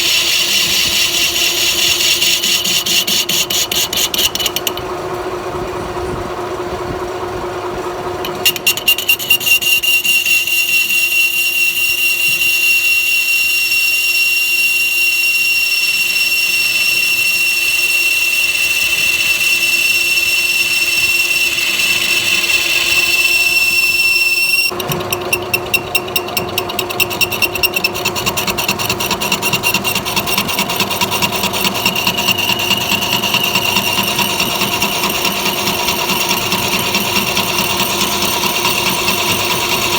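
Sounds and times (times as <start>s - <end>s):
lathe cutting squeal: 0.0s - 4.9s, 8.2s - 39.9s
lathe pulsing machine noise: 0.0s - 39.9s.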